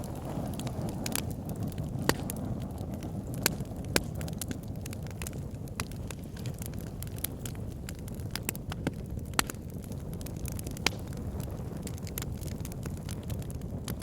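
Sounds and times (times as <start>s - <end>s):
low rumble of fire: 0.0s - 14.0s
wood fire crackling and popping: 0.0s - 14.0s.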